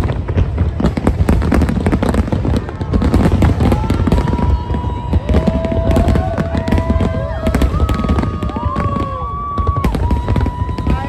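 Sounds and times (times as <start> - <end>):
fireworks bangs and crackles: 0.0 - 11.0
whistling fireworks: 0.0 - 11.0.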